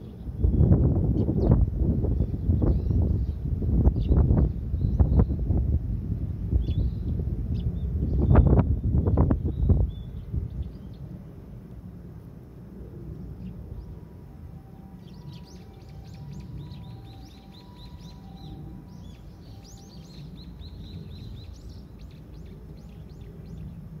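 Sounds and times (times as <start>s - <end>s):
sparrows chirping: 0.0s - 5.4s, 6.6s - 11.2s, 13.3s - 24.0s
low background rumble: 0.0s - 24.0s.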